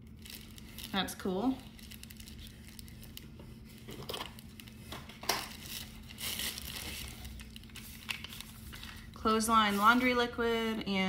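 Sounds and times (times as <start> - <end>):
sharp packaging crackle: 0.0 - 10.0
packaging crinkling and rustling: 0.0 - 10.2.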